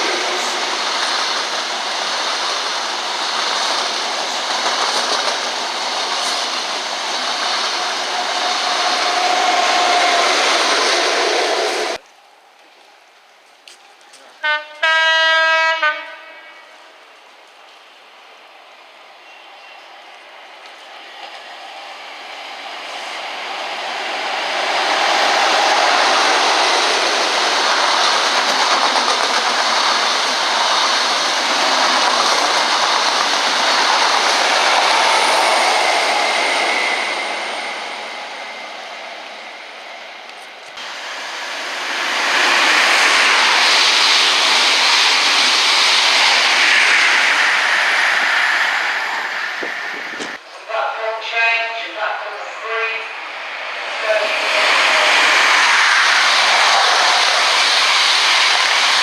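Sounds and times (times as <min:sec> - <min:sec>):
train wheels rushing on rails: 0:00.0 - 0:12.0, 0:14.2 - 0:51.4, 0:52.0 - 0:59.0.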